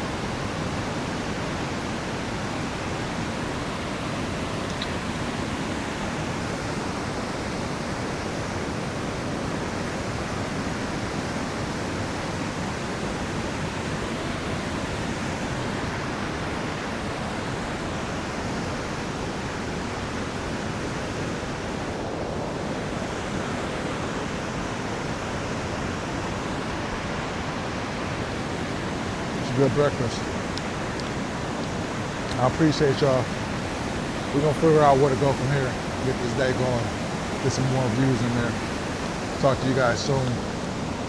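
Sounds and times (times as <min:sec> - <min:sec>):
river water rushing over rocks: 0:00.0 - 0:41.0.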